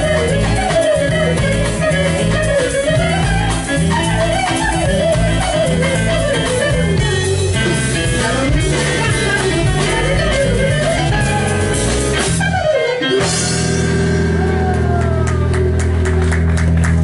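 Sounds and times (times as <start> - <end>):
bass line: 0.0 - 17.0
live band playing: 0.0 - 17.0.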